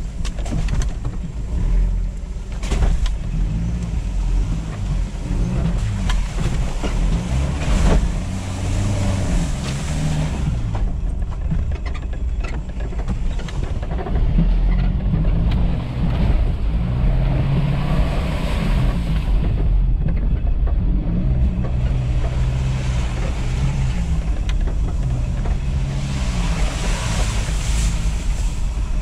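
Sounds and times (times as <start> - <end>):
vehicle knocks and rattles: 0.0 - 18.2, 18.8 - 29.0
diesel engine pulling: 0.0 - 29.0.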